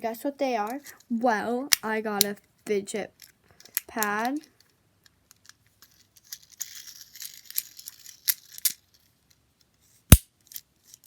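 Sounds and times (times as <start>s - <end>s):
fidget toy rustle: 0.1s - 11.0s.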